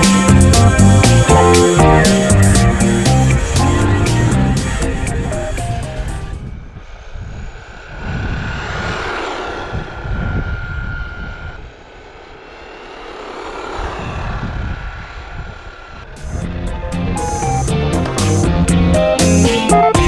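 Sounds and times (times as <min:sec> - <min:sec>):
rushing noise: 0:00.0 - 0:19.8
drone propellers whining: 0:00.0 - 0:20.0.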